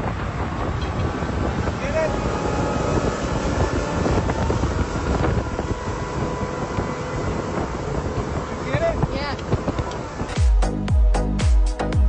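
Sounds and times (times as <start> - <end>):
water rushing past hull: 0.0 - 10.4
wind buffeting microphone: 0.0 - 10.9
motorboat engine drone: 0.0 - 12.0.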